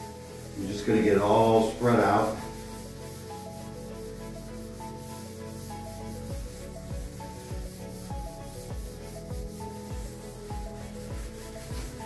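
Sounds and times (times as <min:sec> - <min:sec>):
background music with bass beat: 0:00.0 - 0:12.0
cloth rubbing on wood: 0:00.0 - 0:12.0.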